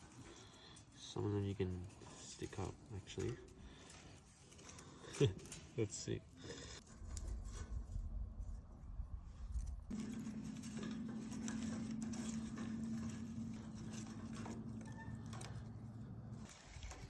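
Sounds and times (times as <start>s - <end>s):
steady low hum: 0.0s - 17.0s
tinder crackling and popping: 0.0s - 17.0s.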